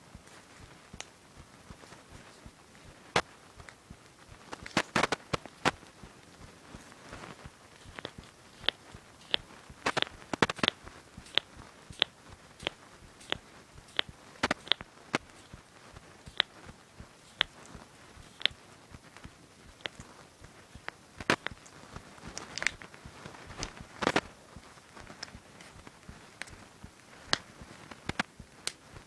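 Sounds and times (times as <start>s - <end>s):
knuckles cracking: 4.4s - 15.6s, 16.2s - 28.8s.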